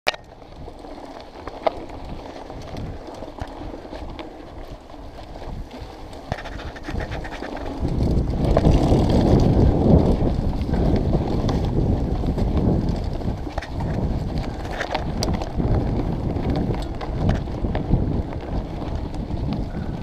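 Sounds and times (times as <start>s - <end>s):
bike clicks and rattles: 0.1s - 20.0s
bike rolling on dirt trail: 0.1s - 20.0s
wind rumble on microphone: 0.1s - 20.0s.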